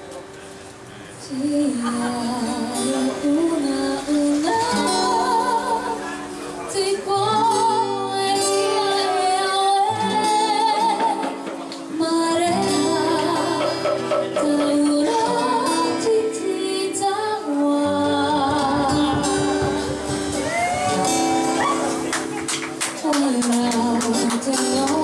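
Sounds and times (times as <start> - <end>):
strummed guitar: 0.0 - 25.0.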